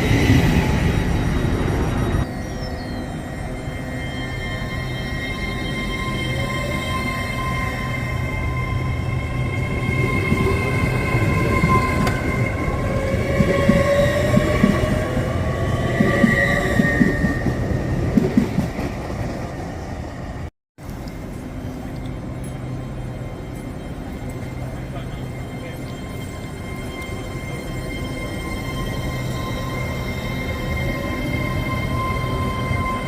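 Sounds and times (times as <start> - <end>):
train high whine: 0.0 - 33.0.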